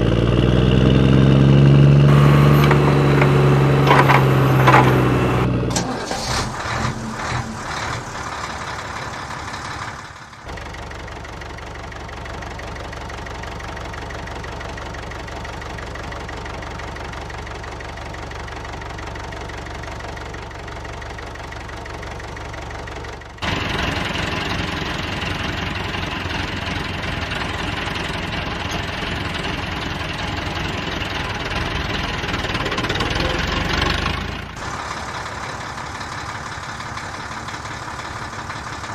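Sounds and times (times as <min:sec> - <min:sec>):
engine running with low knock: 0:00.0 - 0:38.9.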